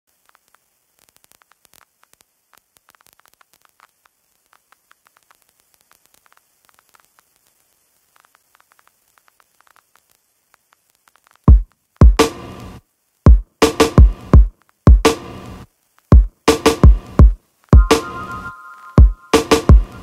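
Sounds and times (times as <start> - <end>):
static hiss and crackles: 0.0 - 20.0.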